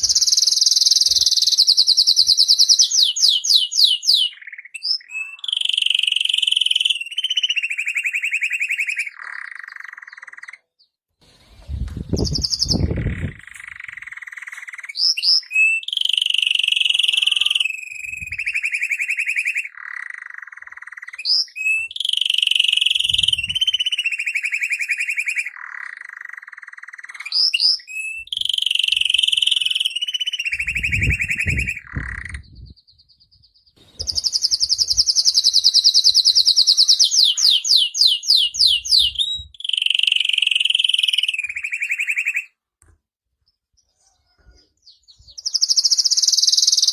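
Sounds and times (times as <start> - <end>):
canary singing trills: 0.0 - 11.0, 12.0 - 42.6, 43.5 - 46.9.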